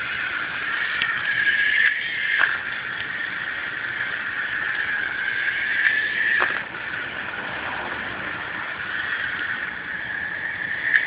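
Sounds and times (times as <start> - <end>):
clockwork toy motor whirring: 0.0 - 11.0.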